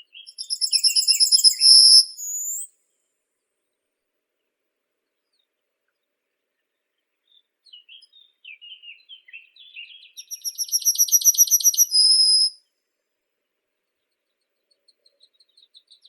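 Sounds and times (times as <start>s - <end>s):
songbird singing: 0.0s - 3.0s, 3.6s - 12.7s, 13.4s - 16.0s.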